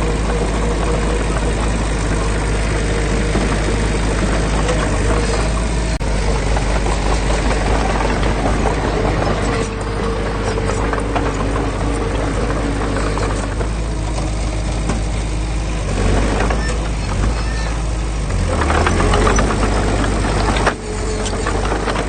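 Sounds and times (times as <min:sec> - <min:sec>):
diesel engine of heavy machinery: 0:00.0 - 0:22.0.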